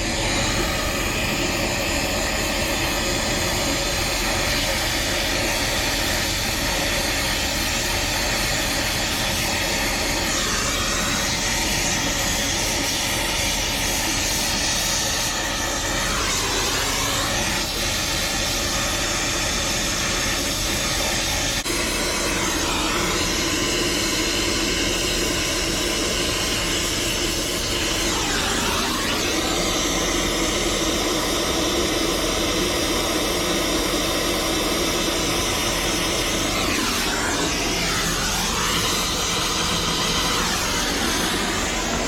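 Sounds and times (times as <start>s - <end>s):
torch flame hissing: 0.0s - 42.0s.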